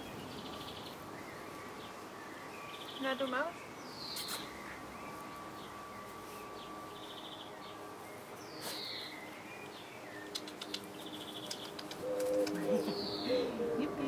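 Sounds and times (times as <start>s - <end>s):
birds chirping and trilling: 0.0s - 14.0s.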